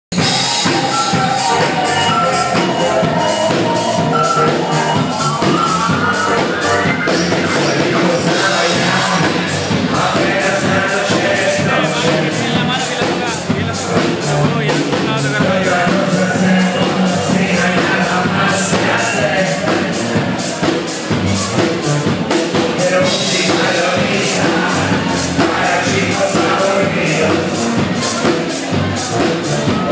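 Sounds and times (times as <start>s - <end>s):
rock band playing: 0.1s - 29.9s
steady drum beat: 0.1s - 29.9s
person singing: 0.2s - 20.9s, 22.6s - 28.4s.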